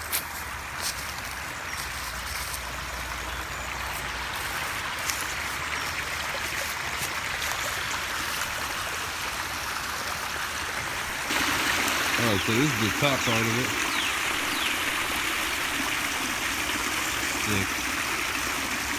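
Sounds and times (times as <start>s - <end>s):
stream and waterfall rushing: 0.0s - 18.9s.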